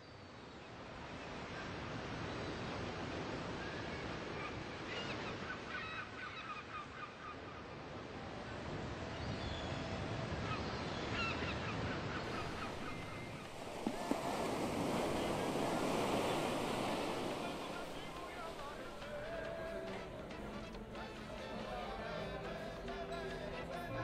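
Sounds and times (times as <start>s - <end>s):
ocean waves and surf: 0.1s - 24.0s.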